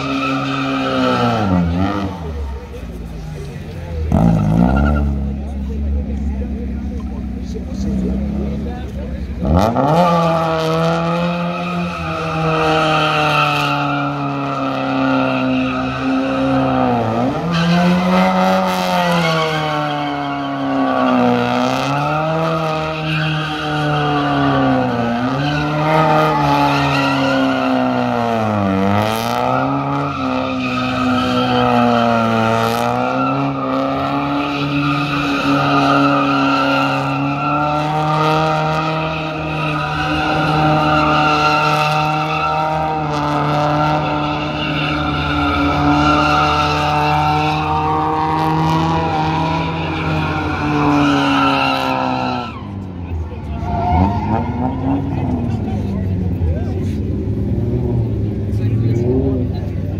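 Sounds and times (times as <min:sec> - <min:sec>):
car engine revving high: 0:00.0 - 0:59.9.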